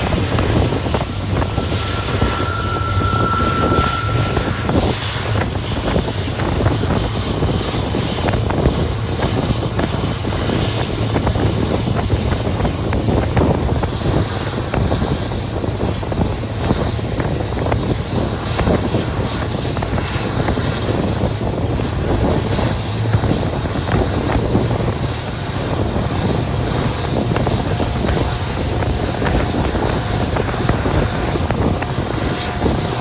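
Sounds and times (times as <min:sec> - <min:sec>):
diesel engine low hum: 0:00.0 - 0:33.0
wheels rattling on rail: 0:00.0 - 0:33.0
wind noise: 0:00.0 - 0:33.0.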